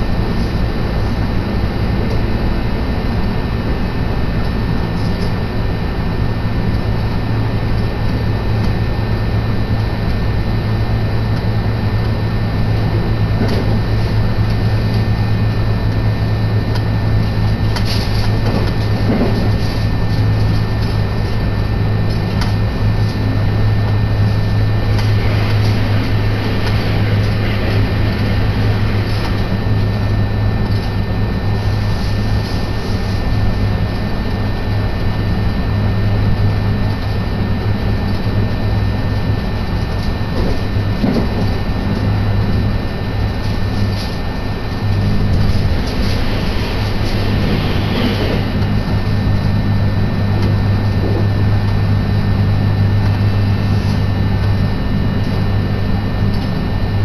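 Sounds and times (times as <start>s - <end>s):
train wheels rumbling on rails: 0.0s - 55.7s
low hum: 0.0s - 57.0s.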